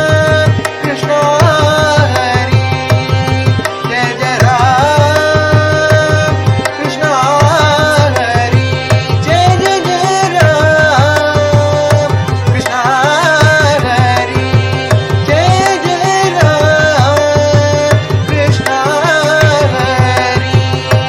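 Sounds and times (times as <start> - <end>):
drum rhythm: 0.0 - 21.0
harmonium: 0.0 - 21.0
person singing: 0.0 - 21.0.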